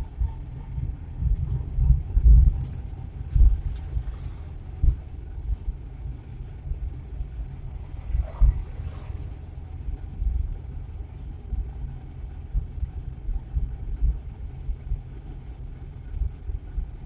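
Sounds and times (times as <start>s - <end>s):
engine and road rumble in cab: 0.0s - 17.0s.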